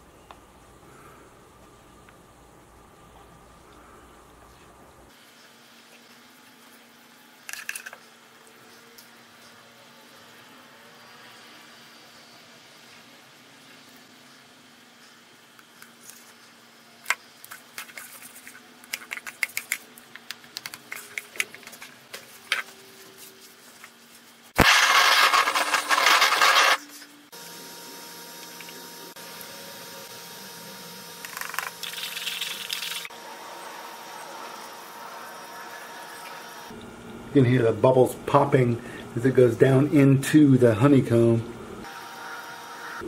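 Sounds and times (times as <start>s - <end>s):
faint steady hum: 0.0s - 24.6s, 26.8s - 43.0s.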